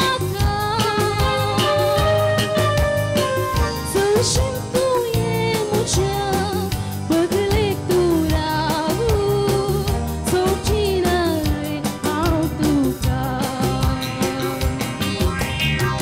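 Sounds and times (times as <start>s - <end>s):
woman singing: 0.0s - 2.8s, 3.5s - 15.1s
drum kit: 0.0s - 16.0s
electric guitar: 0.0s - 16.0s
electronic keyboard: 0.0s - 16.0s.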